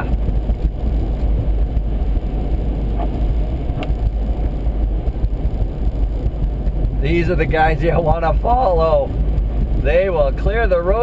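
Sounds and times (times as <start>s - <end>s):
road and engine noise in cabin: 0.0s - 11.0s.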